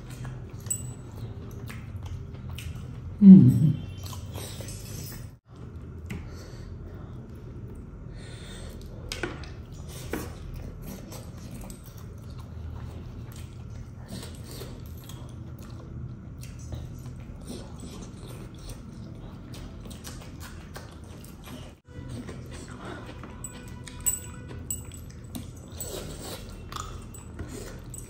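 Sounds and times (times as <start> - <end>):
chewing and lip-smacking: 0.0 - 3.2, 3.8 - 6.3, 8.7 - 28.0.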